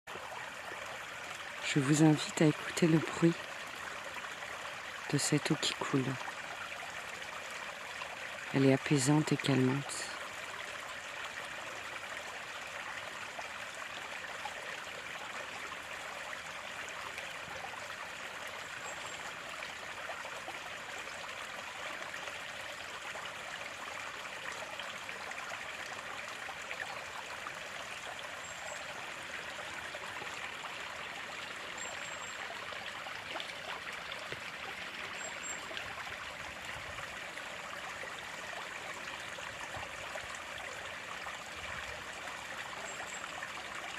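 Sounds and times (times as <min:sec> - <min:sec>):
running water rushing: 0:00.0 - 0:43.9.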